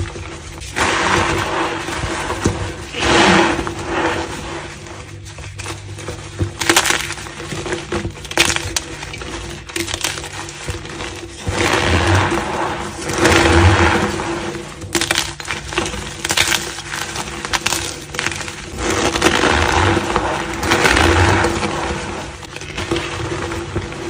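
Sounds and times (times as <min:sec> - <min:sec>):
chalk crunching and crumbling: 0:00.0 - 0:24.0.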